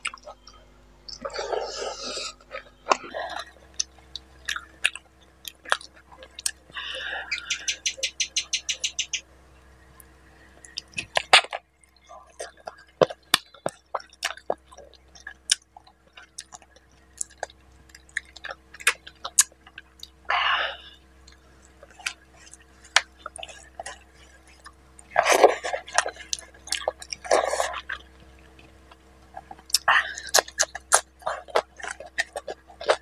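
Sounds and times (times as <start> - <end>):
wet chewing and mouth clicks: 0.0 - 9.2, 10.0 - 20.3, 21.2 - 33.0
faint steady hum: 0.0 - 33.0.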